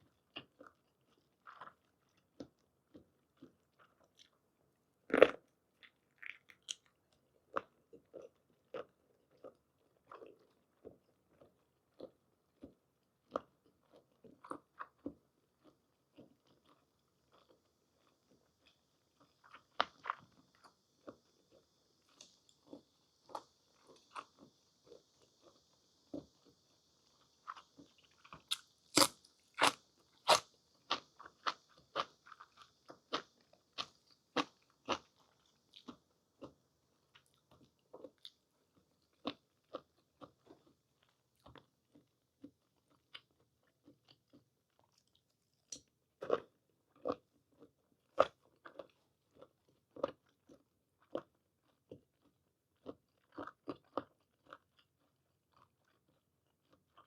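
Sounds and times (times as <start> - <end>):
close-miked chewing: 0.0 - 57.0.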